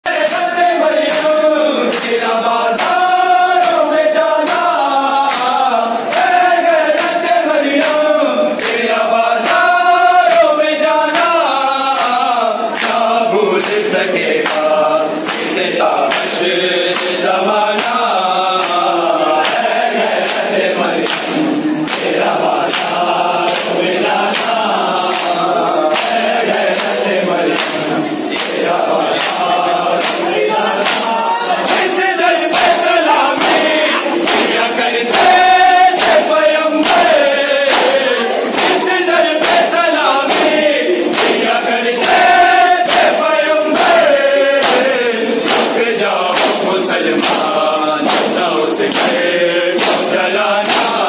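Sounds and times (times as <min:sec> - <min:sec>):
men chanting in unison: 0:00.0 - 0:51.0
hands slapping chests: 0:00.2 - 0:08.0, 0:12.0 - 0:51.0.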